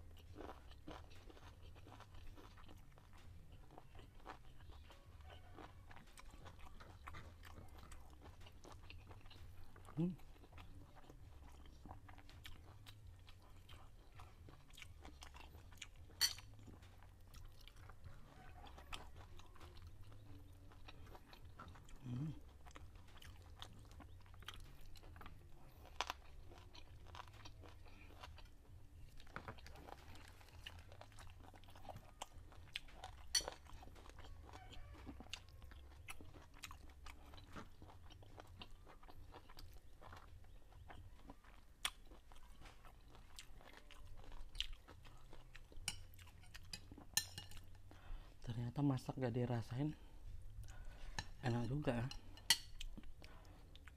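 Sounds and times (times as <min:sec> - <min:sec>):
person chewing food: 0:00.0 - 0:53.9.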